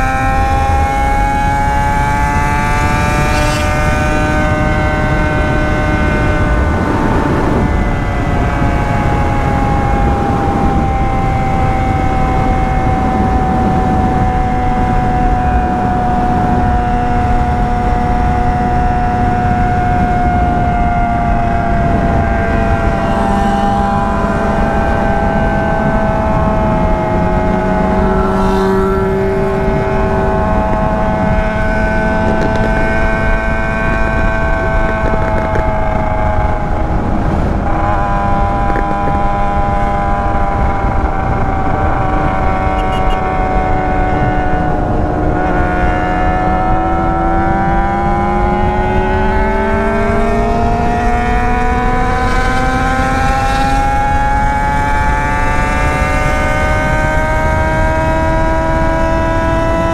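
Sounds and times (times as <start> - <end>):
motorcycle engine at cruising speed: 0.0 - 59.9
wind rumble on microphone: 0.0 - 59.9.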